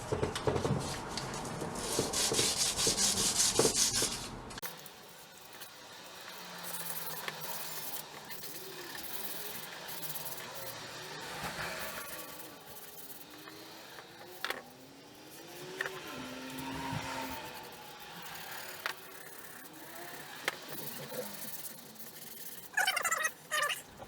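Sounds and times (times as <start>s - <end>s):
sandpaper scraping metal: 1.7s - 23.9s.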